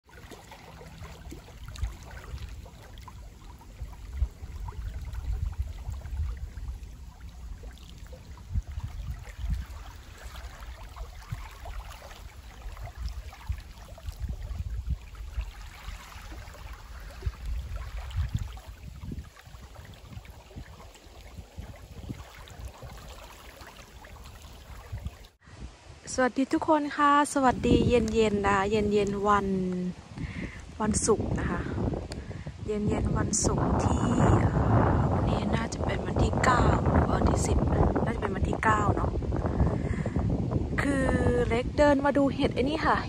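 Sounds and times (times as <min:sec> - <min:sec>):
small waves lapping shore: 0:00.0 - 0:43.0
wind buffeting microphone: 0:00.0 - 0:43.0.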